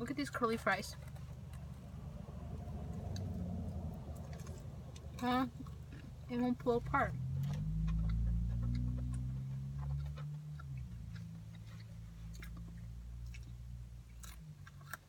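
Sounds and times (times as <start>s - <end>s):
loud low steady hum: 0.0s - 14.4s
person chewing fries: 1.0s - 6.3s, 7.4s - 15.0s.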